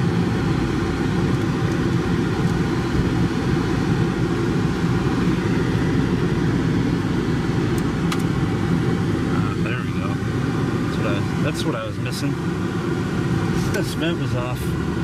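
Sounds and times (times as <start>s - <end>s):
air-conditioning blower running: 0.0s - 15.0s
road and engine noise: 0.0s - 15.0s.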